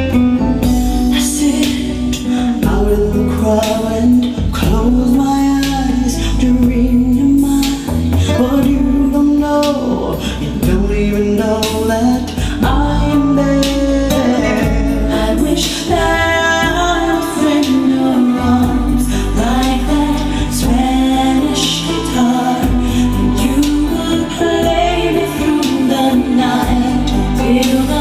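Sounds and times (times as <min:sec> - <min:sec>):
sustained bass notes: 0:00.0 - 0:28.0
woman singing: 0:00.0 - 0:28.0.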